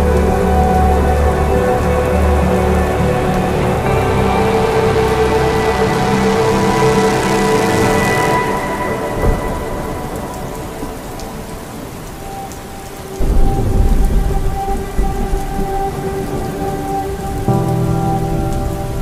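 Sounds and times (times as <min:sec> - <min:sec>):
rain on a car: 0:00.0 - 0:19.0
sustained music chords: 0:00.0 - 0:19.0.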